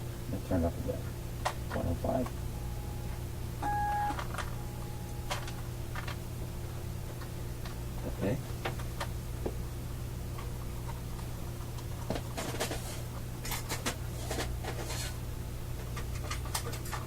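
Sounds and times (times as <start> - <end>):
low mains hum from speaker: 0.0 - 17.0.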